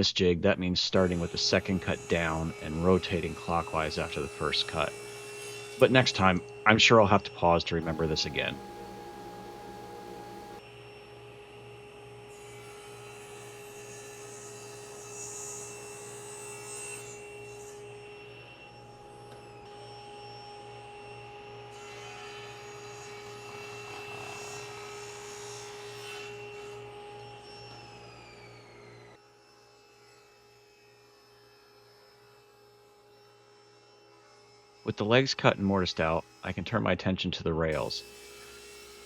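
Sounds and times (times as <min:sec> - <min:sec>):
electric saw cutting wood: 0:01.0 - 0:06.6, 0:07.8 - 0:10.7, 0:12.4 - 0:34.8, 0:37.8 - 0:39.0.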